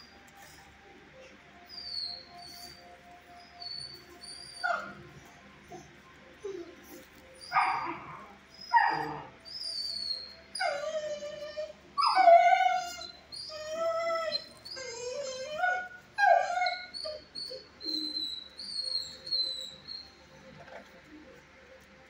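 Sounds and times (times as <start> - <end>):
dog whining and howling: 0.0 - 21.1.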